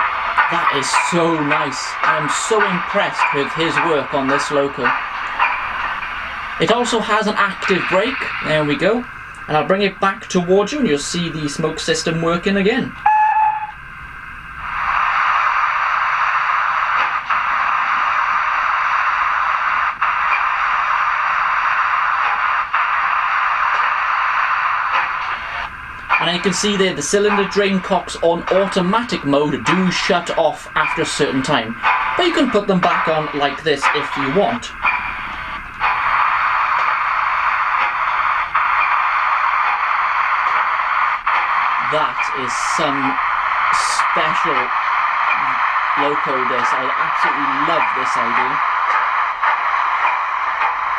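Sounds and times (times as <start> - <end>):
steam hiss from small speaker: 0.0 - 50.9.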